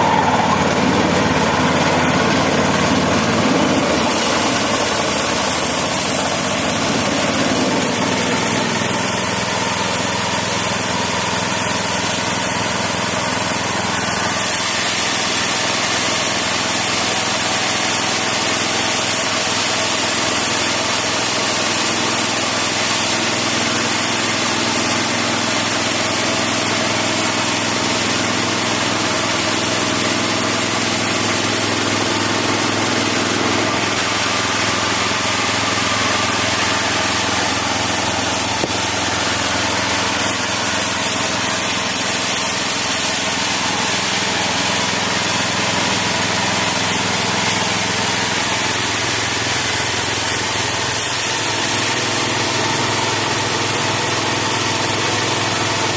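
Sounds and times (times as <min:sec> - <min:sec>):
engine running: 0:00.0 - 0:55.9
saw blade cutting wood: 0:00.0 - 0:55.9.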